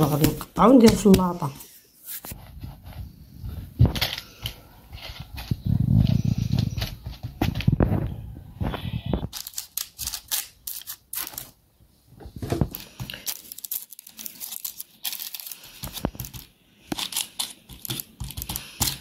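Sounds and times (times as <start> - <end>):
baking paper crinkling: 0.0 - 7.9, 9.1 - 11.6, 12.3 - 19.0.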